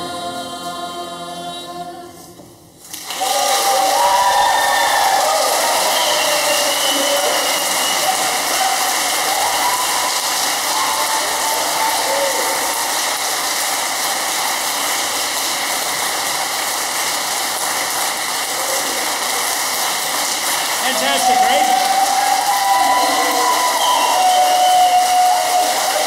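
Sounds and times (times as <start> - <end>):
audience applauding: 2.8 - 26.0.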